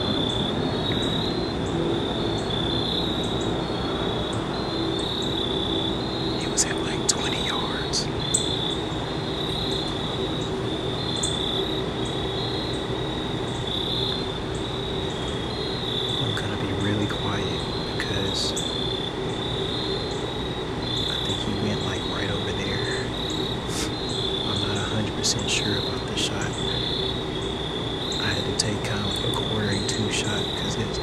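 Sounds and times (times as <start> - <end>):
crickets chirping: 0.0 - 31.0
low steady hum: 0.0 - 31.0.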